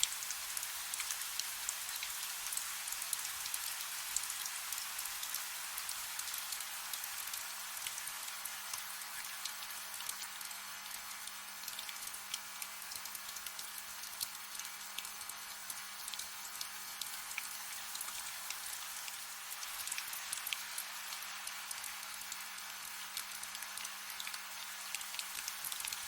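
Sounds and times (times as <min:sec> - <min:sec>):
soft rain hiss: 0:00.0 - 0:26.0.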